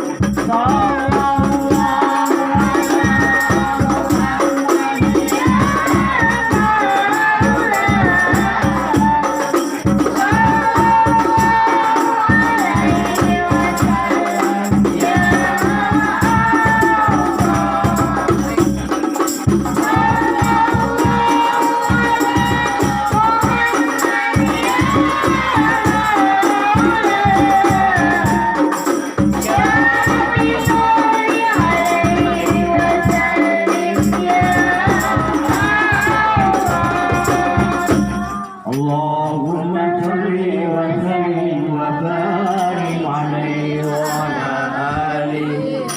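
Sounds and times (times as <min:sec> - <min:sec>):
fast percussion with rattling jingles: 0:00.0 - 0:40.2, 0:41.9 - 0:44.8
devotional song singing: 0:00.0 - 0:45.9.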